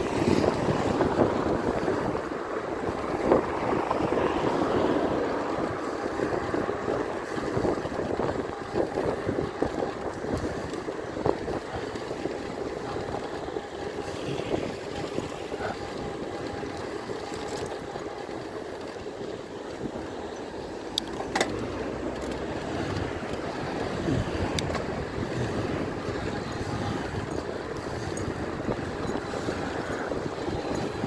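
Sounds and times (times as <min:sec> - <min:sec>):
tyre and road noise: 0:00.0 - 0:31.0
wind buffeting microphone: 0:00.0 - 0:31.0.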